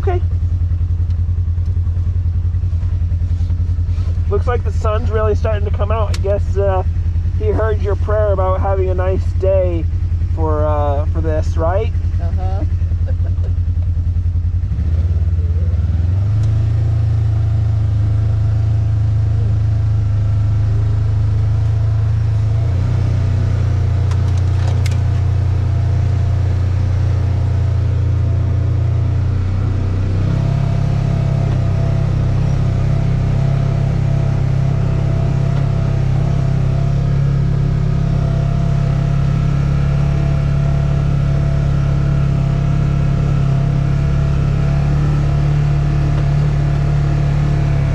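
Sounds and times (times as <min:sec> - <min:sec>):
vehicle engine droning: 0:00.0 - 0:47.9.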